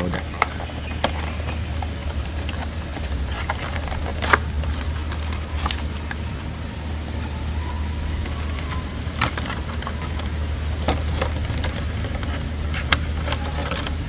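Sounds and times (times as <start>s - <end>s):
cards handling noises: 0.0s - 14.0s
low steady hum: 0.0s - 14.0s.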